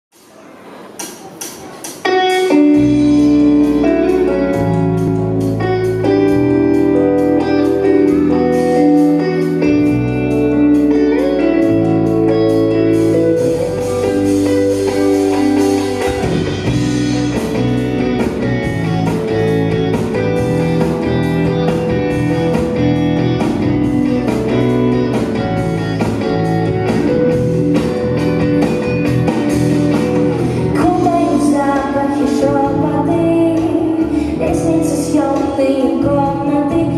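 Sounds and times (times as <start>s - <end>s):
drum kit beat: 0.2s - 31.6s
keyboard chords: 0.2s - 36.9s
electric guitar: 1.8s - 36.9s
bass: 2.6s - 36.9s.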